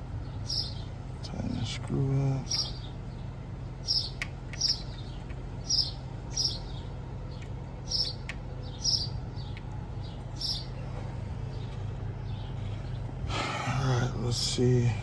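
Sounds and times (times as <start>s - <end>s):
small bird chirping: 0.0s - 13.2s
steady low hum: 0.0s - 15.0s.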